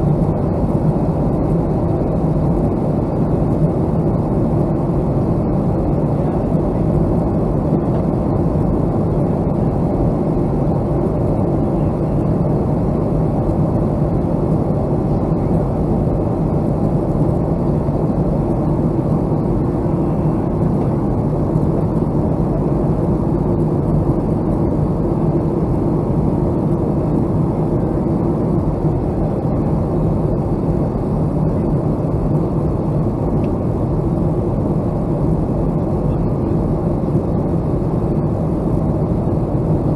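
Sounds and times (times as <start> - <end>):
faint steady hum: 0.0 - 39.9
jet engine rumble: 0.0 - 39.9.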